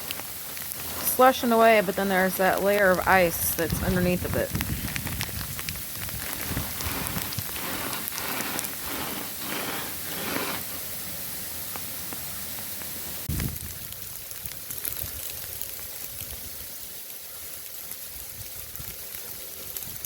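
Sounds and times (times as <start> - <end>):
rain falling on slush: 0.0 - 20.0.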